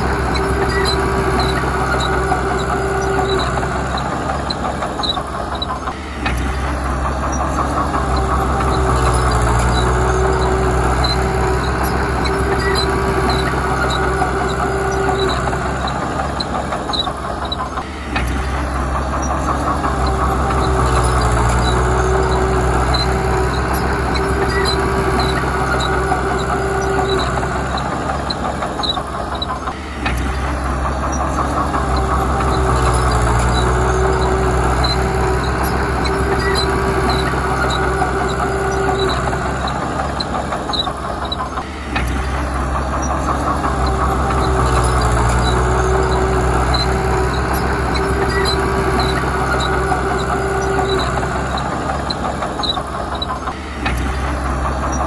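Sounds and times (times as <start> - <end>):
bulldozer diesel engine running: 0.0 - 55.0
engine whine: 0.0 - 55.0.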